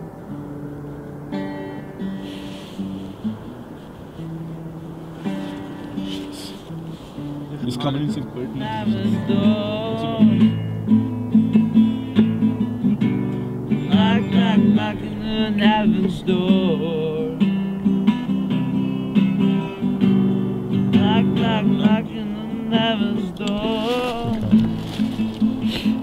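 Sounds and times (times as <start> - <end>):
strummed acoustic guitar: 0.0 - 26.0.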